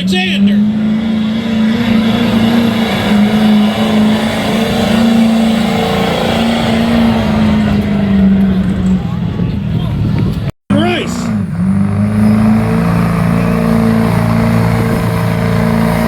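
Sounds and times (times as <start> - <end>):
engine running at high revs: 0.0 - 16.0.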